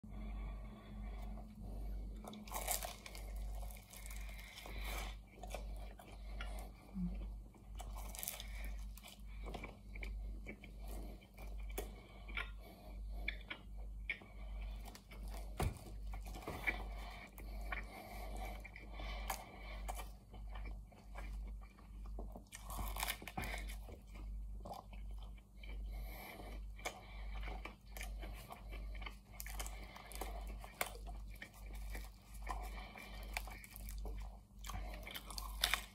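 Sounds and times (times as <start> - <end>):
crunchy pastry chewing: 0.7 - 35.9.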